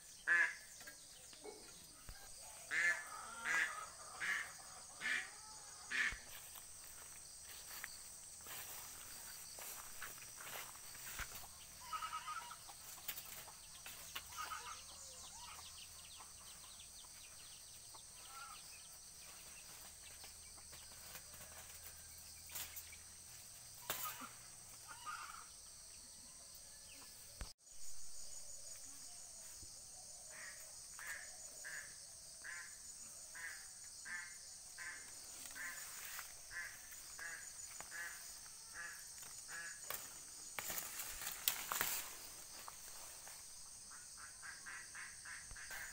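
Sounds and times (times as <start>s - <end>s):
high insect buzz: 2.7s - 16.0s, 18.1s - 26.1s, 30.3s - 45.9s.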